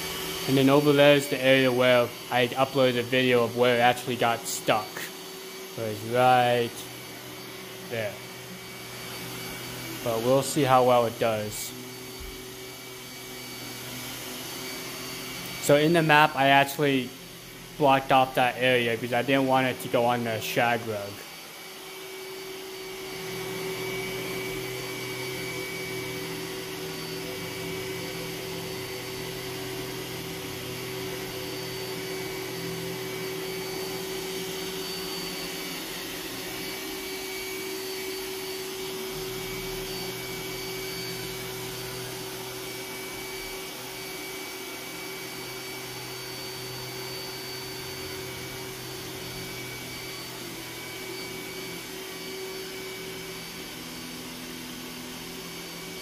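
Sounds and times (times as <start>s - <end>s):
robot vacuum motor whine: 0.0s - 56.0s.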